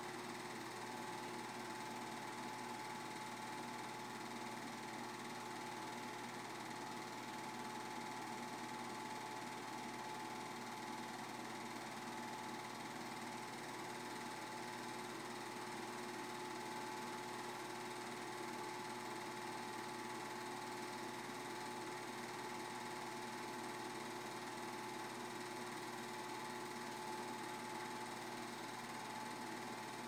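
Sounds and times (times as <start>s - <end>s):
film projector whirring: 0.0s - 30.0s.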